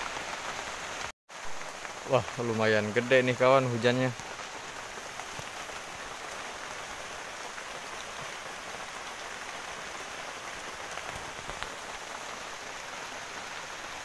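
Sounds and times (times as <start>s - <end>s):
rain falling on leaves: 0.0s - 14.0s.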